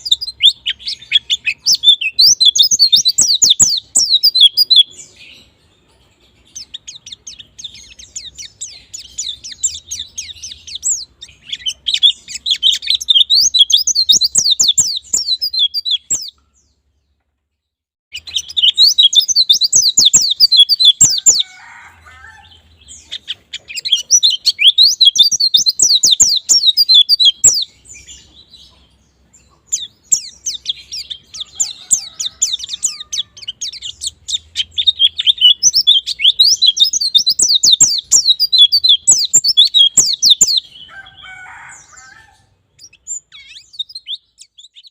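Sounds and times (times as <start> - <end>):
bird high chirping song: 0.0 - 44.9.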